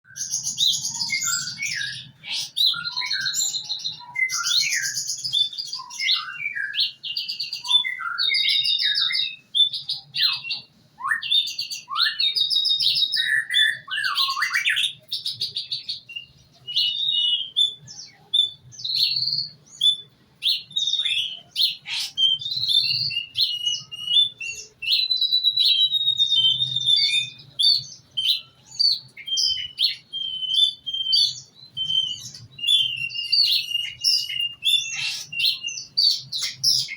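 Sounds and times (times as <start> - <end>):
songbird singing trilled phrases: 0.0 - 36.9.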